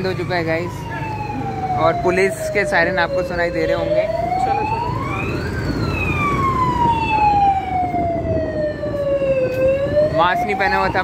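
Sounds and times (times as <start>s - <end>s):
police siren wailing: 0.0s - 11.0s.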